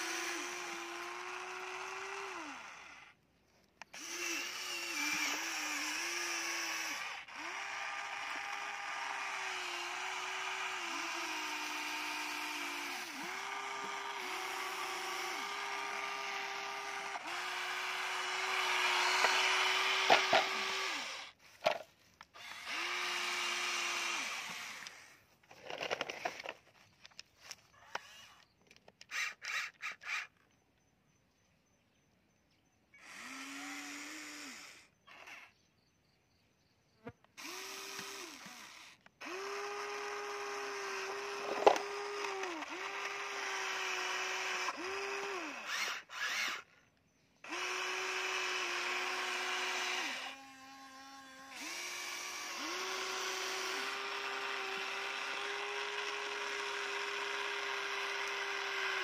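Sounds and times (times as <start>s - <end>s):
toy excavator motors whining: 0.0s - 30.9s, 33.0s - 35.9s, 37.0s - 59.0s.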